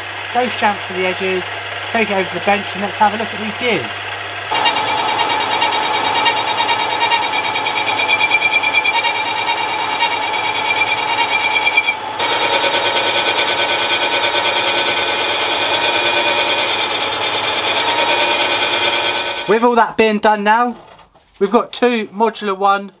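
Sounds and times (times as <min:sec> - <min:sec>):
lathe machining whine: 0:00.0 - 0:19.5.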